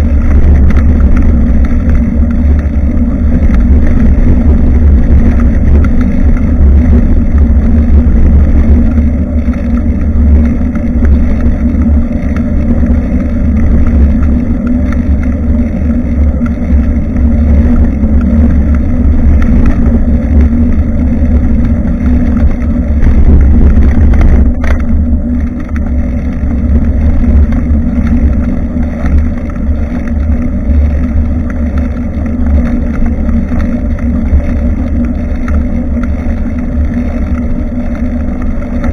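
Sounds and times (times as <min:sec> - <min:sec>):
faint hum: 0:00.0 - 0:38.9
wind and road rumble: 0:00.0 - 0:38.9.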